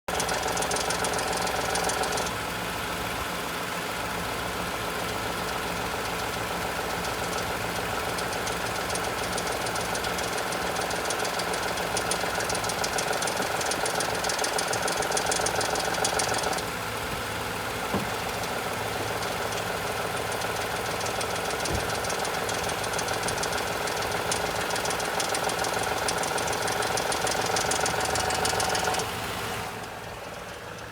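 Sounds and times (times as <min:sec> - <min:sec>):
fast even engine knocking: 0:00.1 - 0:02.7, 0:04.6 - 0:30.9
pickup engine running: 0:00.1 - 0:30.9.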